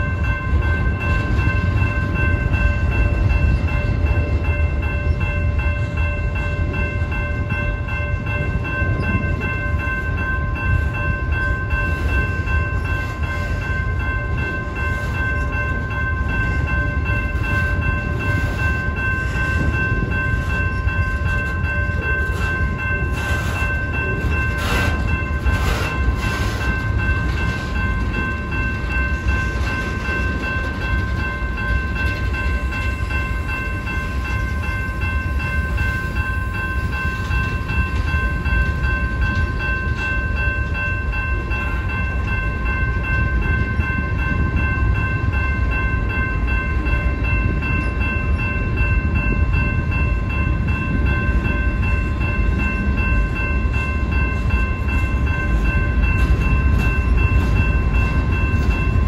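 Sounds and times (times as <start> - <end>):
crossing warning bell ringing: 0.0 - 59.0.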